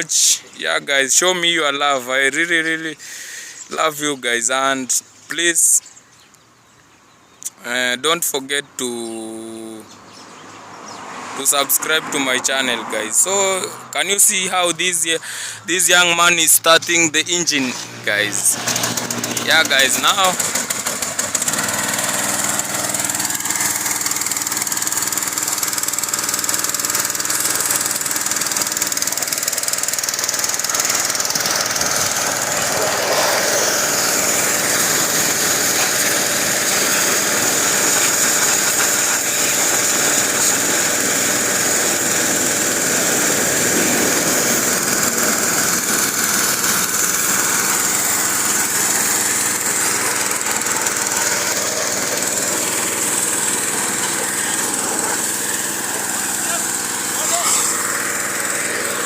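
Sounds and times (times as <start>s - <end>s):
pressure washer engine running: 11.2s - 59.0s
constant high whine: 11.4s - 59.0s.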